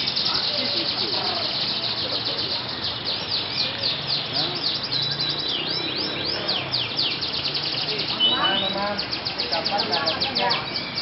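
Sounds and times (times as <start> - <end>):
canaries singing: 0.0 - 11.0.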